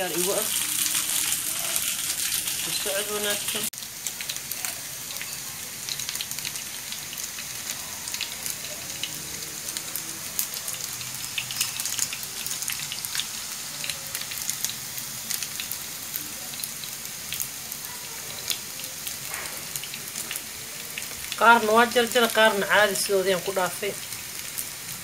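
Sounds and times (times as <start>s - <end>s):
sausages sizzling in a pan: 0.0s - 25.0s.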